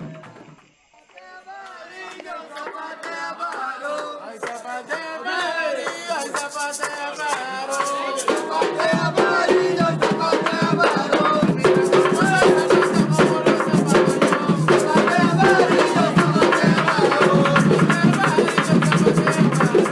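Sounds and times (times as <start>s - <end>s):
music with singing and percussion: 0.0s - 19.9s.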